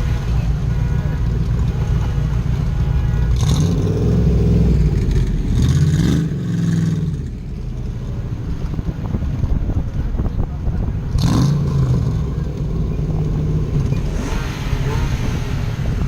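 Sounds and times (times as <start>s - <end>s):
sports car engines revving: 0.0s - 16.0s.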